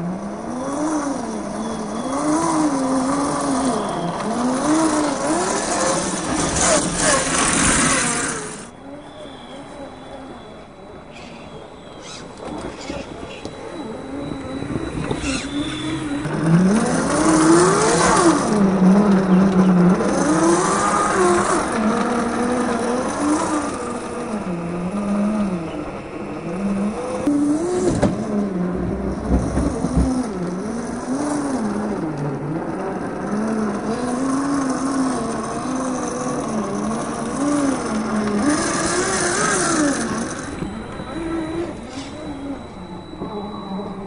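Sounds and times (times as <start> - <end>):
electric motor and gearbox whining: 0.0 - 44.0.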